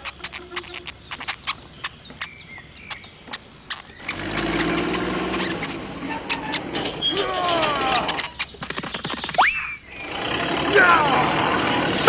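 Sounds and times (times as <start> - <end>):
sharp clicks: 0.0 - 10.4.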